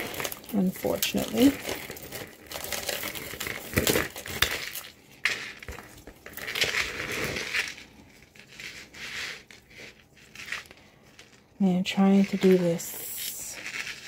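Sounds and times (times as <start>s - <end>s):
jewelry clinking and rustling: 0.0s - 14.0s.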